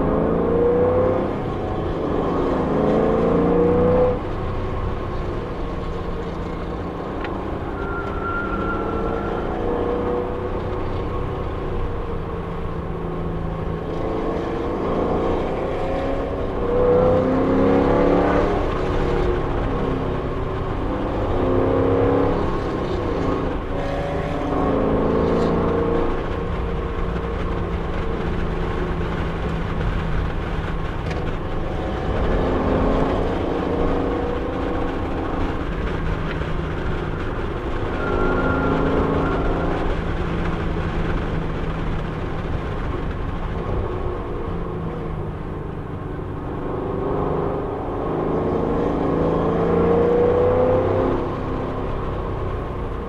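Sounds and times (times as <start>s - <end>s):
car engine revving: 0.0s - 53.0s
road and tyre noise: 0.0s - 53.0s.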